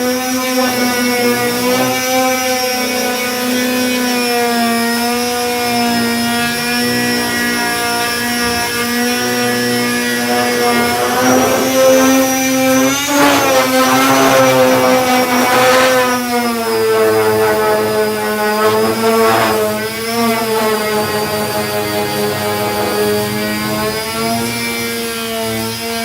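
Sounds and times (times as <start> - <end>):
power sander motor whine: 0.0 - 26.0
scratchy sanding rasps: 0.2 - 24.8.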